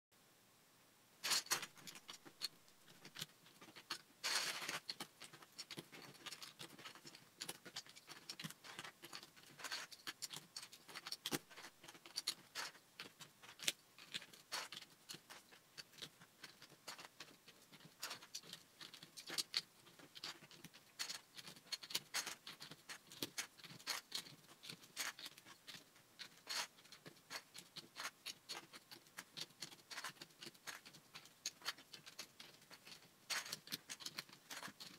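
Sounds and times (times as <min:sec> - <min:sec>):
plastic bricks clicking: 0:01.2 - 0:34.9.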